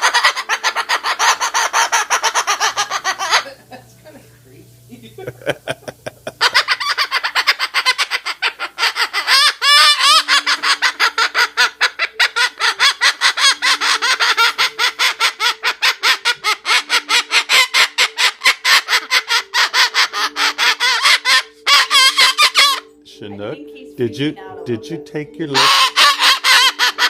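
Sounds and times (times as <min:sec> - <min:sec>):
parrot squawks: 0:00.0 - 0:03.6, 0:06.4 - 0:23.0, 0:25.5 - 0:27.0
parrot calling harsh notes: 0:00.0 - 0:03.7, 0:06.3 - 0:23.0, 0:24.5 - 0:27.0.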